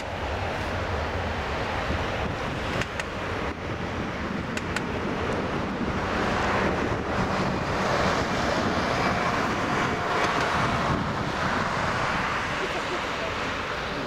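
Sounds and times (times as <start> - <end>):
distant jet engine roar: 0.0 - 14.0.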